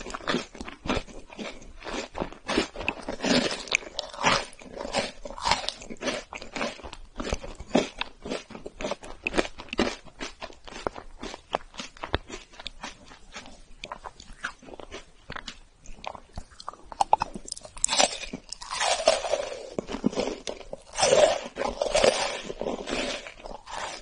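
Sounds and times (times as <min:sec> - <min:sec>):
crunching and chewing wafer: 0:00.0 - 0:24.0.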